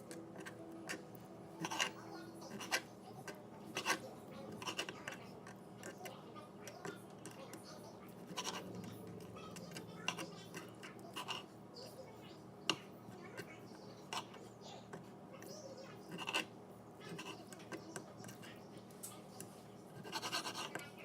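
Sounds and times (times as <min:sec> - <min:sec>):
knife tapping and scraping board: 0:00.0 - 0:07.6, 0:08.2 - 0:11.5, 0:14.1 - 0:18.5, 0:19.4 - 0:21.0.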